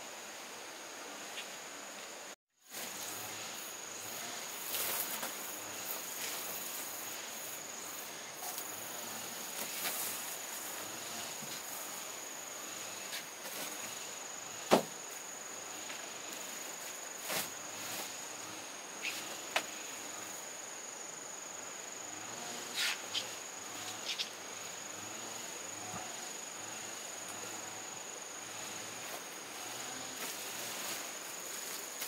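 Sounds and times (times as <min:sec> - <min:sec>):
insect chirring: 0:02.9 - 0:32.0.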